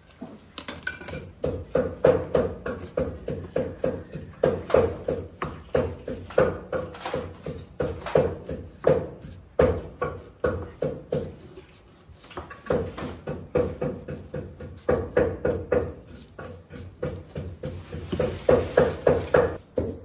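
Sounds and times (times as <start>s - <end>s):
knife chopping on cutting board: 1.4s - 19.6s.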